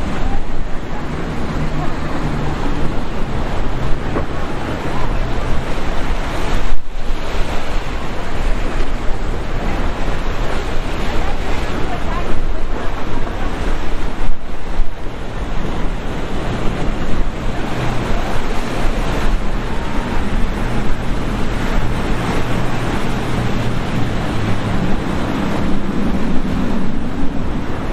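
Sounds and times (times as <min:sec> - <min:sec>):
boat engine drone: 0:00.0 - 0:27.9
waves rushing: 0:00.0 - 0:27.9
wind noise on microphone: 0:00.0 - 0:27.9.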